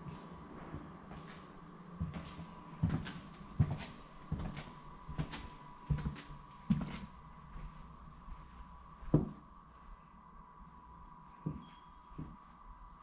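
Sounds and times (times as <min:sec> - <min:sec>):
footsteps walking: 0:00.0 - 0:10.0, 0:11.4 - 0:12.6
faint high hum: 0:00.0 - 0:13.0.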